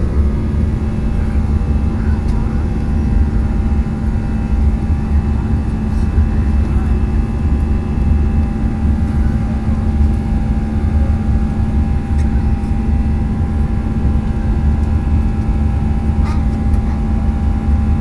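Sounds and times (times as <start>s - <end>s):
airliner cabin rumble: 0.0s - 18.0s
constant hum: 0.0s - 18.0s.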